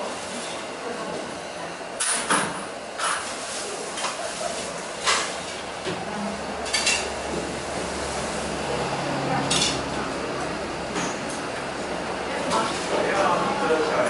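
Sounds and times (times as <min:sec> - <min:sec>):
background din of busy shop: 0:00.0 - 0:14.0.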